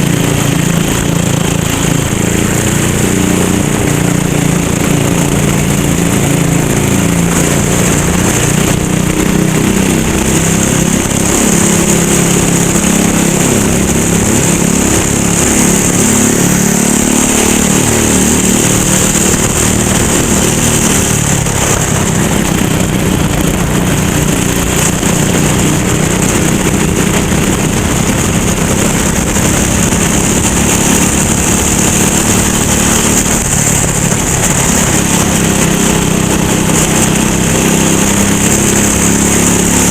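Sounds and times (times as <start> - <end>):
racing kart engine revving: 0.0 - 39.9.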